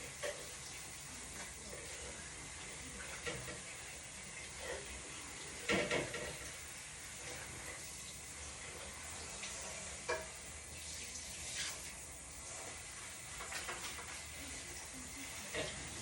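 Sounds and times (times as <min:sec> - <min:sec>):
chicken sizzling in a pot: 0:00.0 - 0:16.0.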